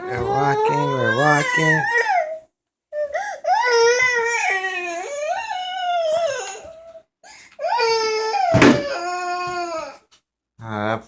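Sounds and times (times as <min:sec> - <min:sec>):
toddler crying: 0:00.0 - 0:02.4, 0:03.0 - 0:10.1.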